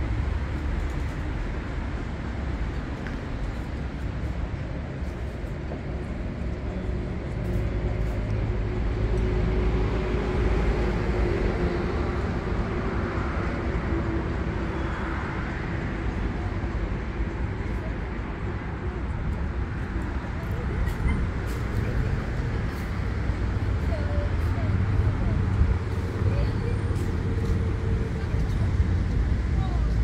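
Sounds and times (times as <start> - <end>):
faint vehicle hum: 0.0 - 30.0
street traffic rumble: 0.0 - 30.0.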